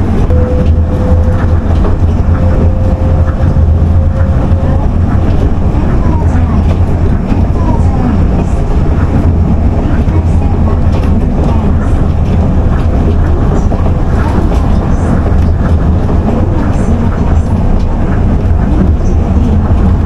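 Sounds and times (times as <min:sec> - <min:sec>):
monorail train rumbling: 0:00.0 - 0:20.0.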